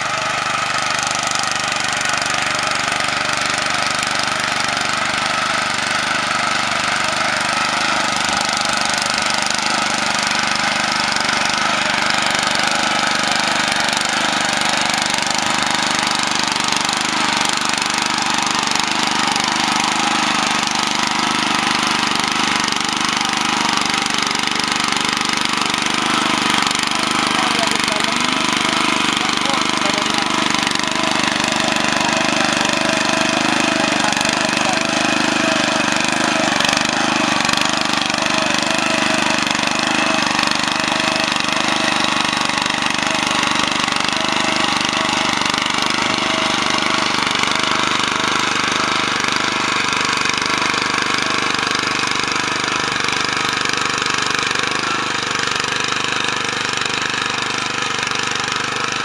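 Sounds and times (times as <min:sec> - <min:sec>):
small petrol engine running: 0:00.0 - 0:59.0.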